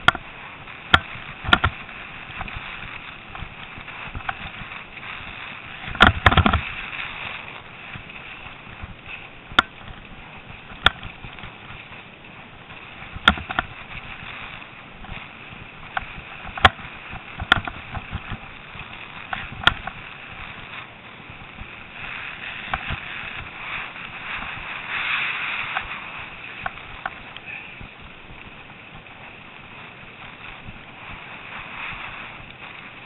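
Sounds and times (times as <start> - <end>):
bike knocking and rattling: 0.0 - 33.0
bike tyres hissing on snow: 0.0 - 33.0.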